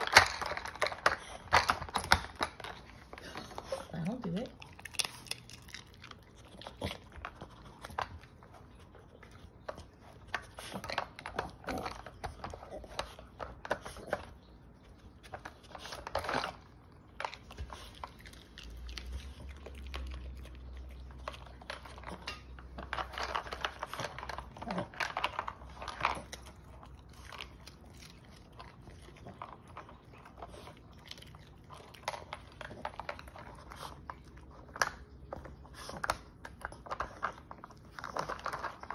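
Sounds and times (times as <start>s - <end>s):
dog chewing and crunching treats: 0.0s - 38.9s.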